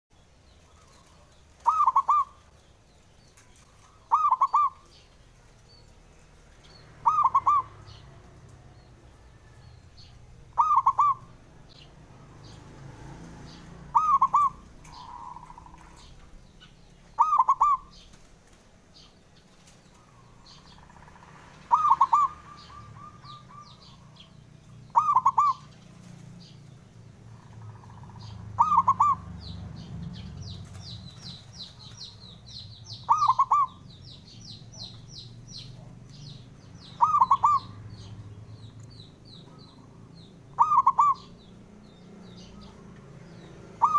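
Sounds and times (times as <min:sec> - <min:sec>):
dove cooing: 0:00.7 - 0:02.6, 0:03.4 - 0:05.2, 0:07.0 - 0:08.4, 0:09.2 - 0:12.6, 0:13.4 - 0:18.3, 0:19.6 - 0:26.7, 0:27.3 - 0:41.6, 0:42.2 - 0:43.9.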